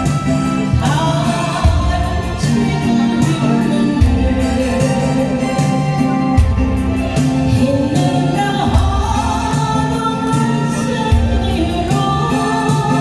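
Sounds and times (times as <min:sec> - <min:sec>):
instrumental accompaniment: 0:00.0 - 0:13.0
woman singing a ballad: 0:00.0 - 0:13.0.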